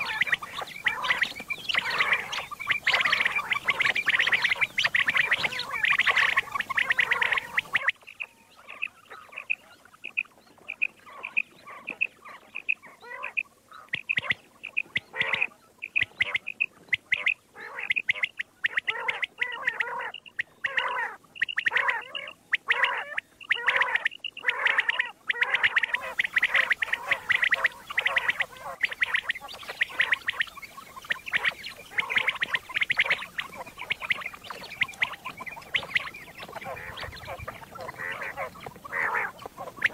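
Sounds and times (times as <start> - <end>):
background hiss: 0.0 - 20.5, 25.6 - 39.9
quail calling: 0.0 - 39.9.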